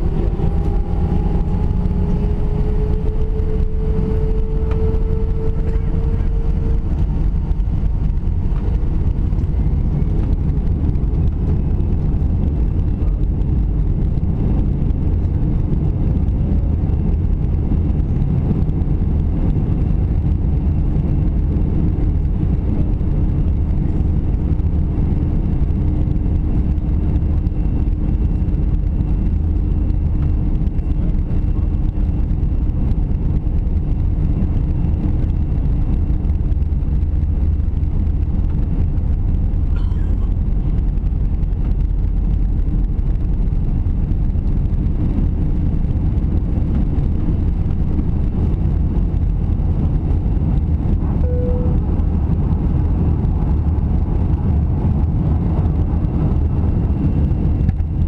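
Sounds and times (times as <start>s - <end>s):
aircraft cabin engine hum: 0.0s - 58.0s.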